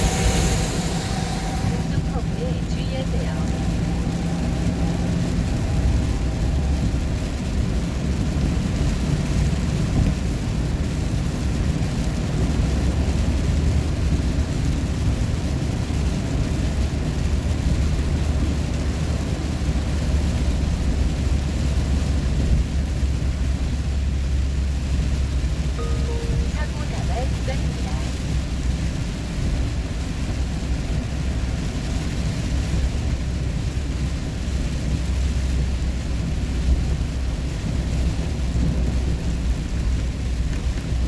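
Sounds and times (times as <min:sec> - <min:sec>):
car engine drone: 0:00.0 - 0:41.0.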